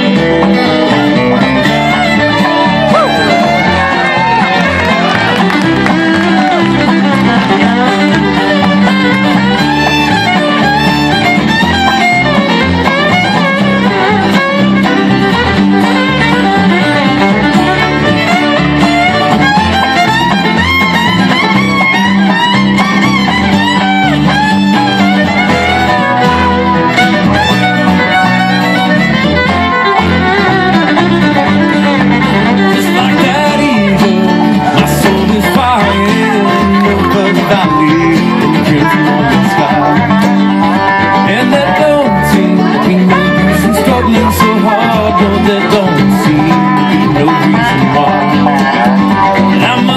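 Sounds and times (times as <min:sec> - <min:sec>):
acoustic guitar: 0:00.0 - 0:49.9
banjo: 0:00.0 - 0:49.9
dobro: 0:00.0 - 0:49.9
fiddle lead melody: 0:00.0 - 0:49.9
upright bass: 0:00.0 - 0:49.9.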